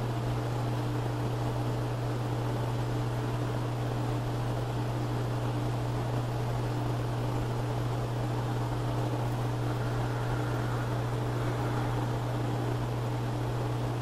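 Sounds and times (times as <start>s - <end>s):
constant hiss: 0.0s - 14.0s
steady low hum: 0.0s - 14.0s.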